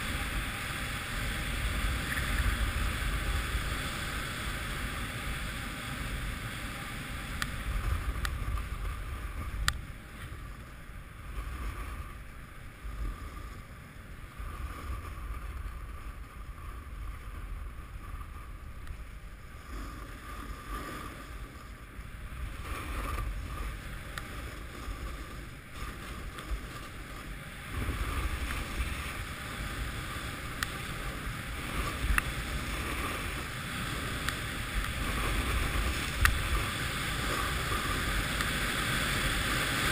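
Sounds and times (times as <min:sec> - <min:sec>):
snowboard sliding over snow: 0:00.0 - 0:39.9
wind rushing over microphone: 0:00.0 - 0:39.9.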